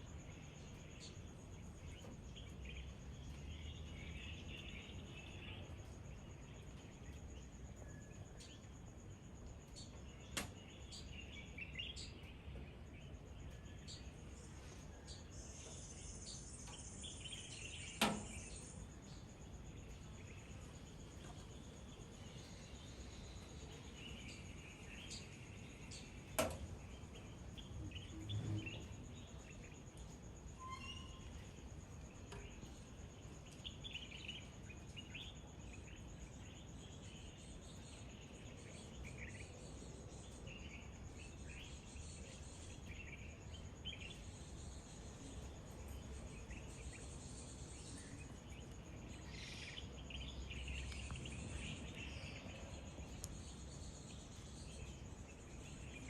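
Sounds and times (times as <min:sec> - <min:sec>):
high insect drone: 0:00.0 - 0:56.0
small birds chirping: 0:00.0 - 0:56.0.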